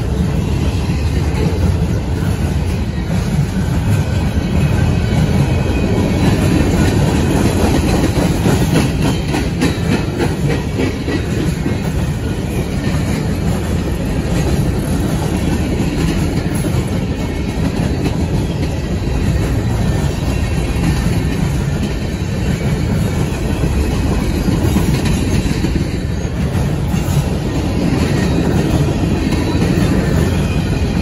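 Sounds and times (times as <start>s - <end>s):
train wheels rumbling on rail: 0.0s - 31.0s
wheels clicking over rail joints: 0.1s - 31.0s.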